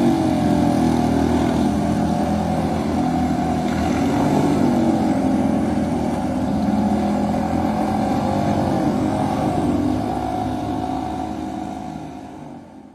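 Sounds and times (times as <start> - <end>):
outboard motors running: 0.0 - 12.9.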